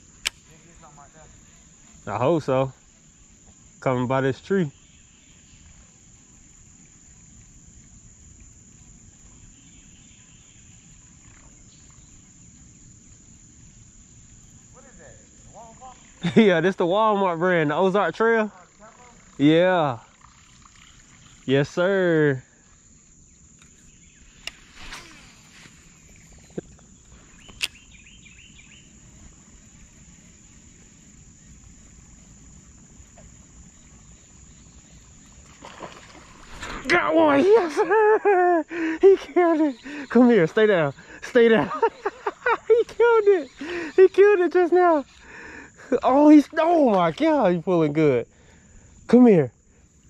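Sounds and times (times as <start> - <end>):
insects singing: 0.0 - 50.0.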